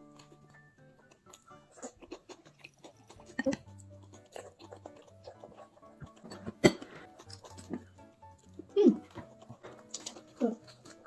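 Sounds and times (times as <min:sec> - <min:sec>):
background music: 0:00.0 - 0:11.0
child chewing and crunching food: 0:00.0 - 0:11.0.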